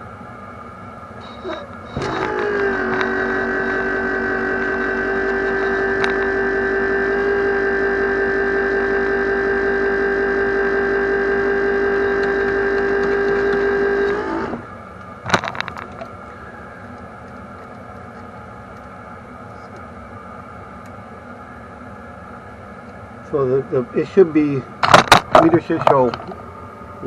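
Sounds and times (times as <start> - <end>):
loud steady buzzing tone: 0.0 - 27.0.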